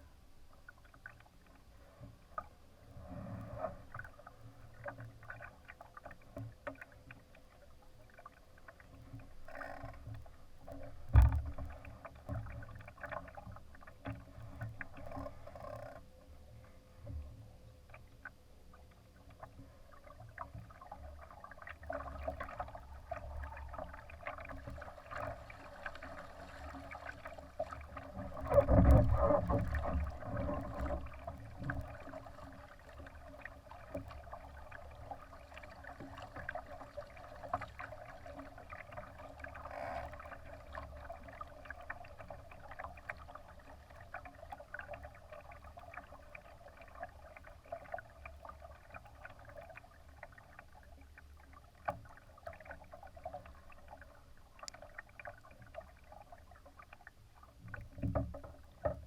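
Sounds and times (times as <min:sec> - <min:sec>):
water splashing along boat hull: 0:00.0 - 0:59.0.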